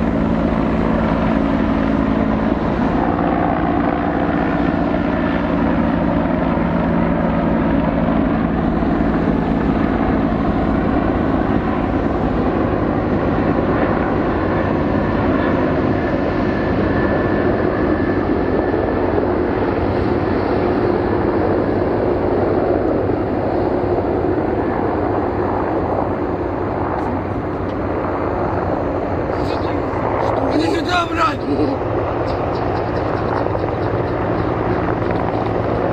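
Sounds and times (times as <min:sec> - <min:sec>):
helicopter engines and rotor drone: 0:00.0 - 0:35.9.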